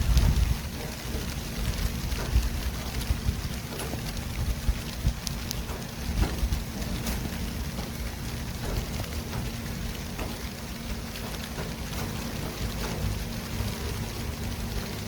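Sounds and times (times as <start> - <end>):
passing vehicles rumble and hiss: 0.0 - 15.0
light ticks: 0.1 - 14.2.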